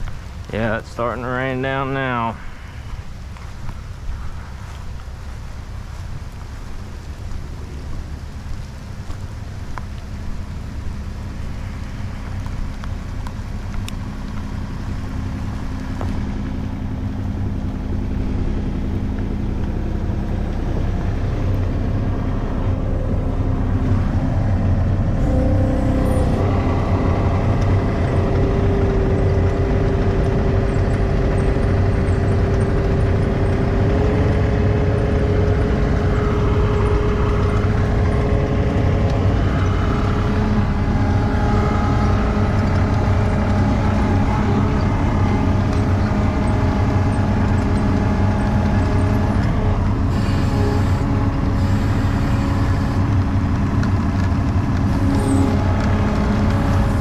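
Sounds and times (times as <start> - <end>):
diesel engine rumble: 0.0 - 57.0
hydraulic whine: 11.1 - 57.0.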